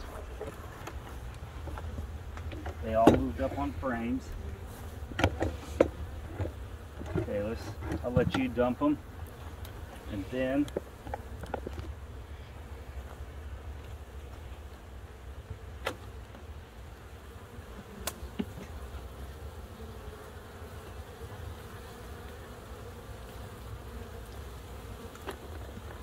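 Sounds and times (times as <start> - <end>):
honey bees buzzing: 0.0 - 26.0.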